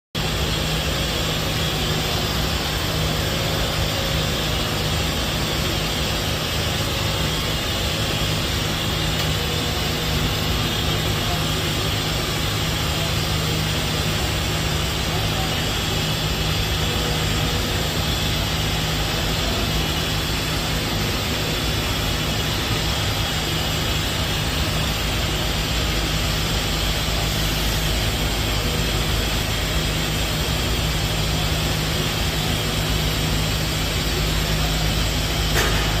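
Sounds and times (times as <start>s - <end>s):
machining center humming: 0.2s - 36.0s.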